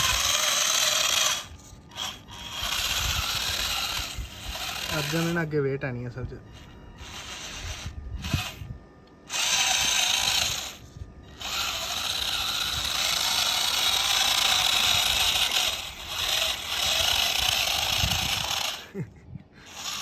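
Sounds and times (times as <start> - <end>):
electric motor and gearbox whirring: 0.0 - 20.0.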